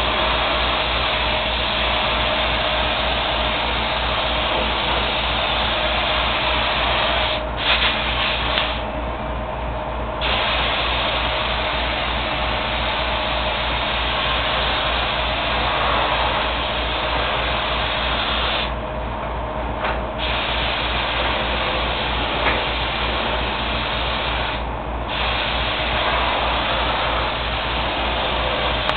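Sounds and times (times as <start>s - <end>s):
spray gun hissing: 0.0s - 8.9s, 10.2s - 18.8s, 20.2s - 28.9s
low pulsing mechanical hum: 0.0s - 28.9s.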